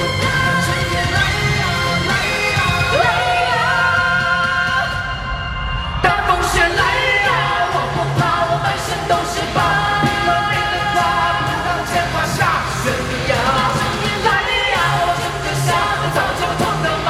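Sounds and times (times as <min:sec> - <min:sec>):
loud band with pulsing bass: 0:00.0 - 0:17.0.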